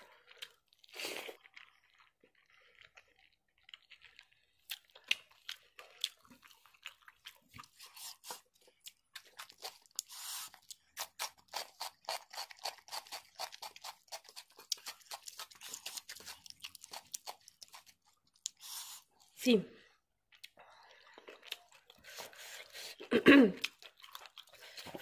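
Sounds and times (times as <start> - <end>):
chewing crunchy food: 0.1 - 19.4, 20.3 - 25.0.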